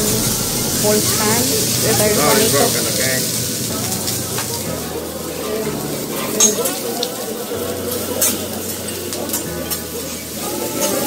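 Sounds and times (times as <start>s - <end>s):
food sizzling on a griddle: 0.0s - 11.0s
murmur of voices: 0.0s - 11.0s.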